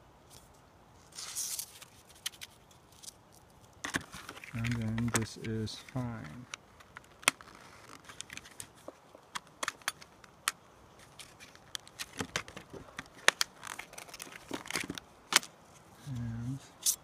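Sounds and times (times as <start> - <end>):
blister pack clicks and crinkles: 1.2 - 15.5.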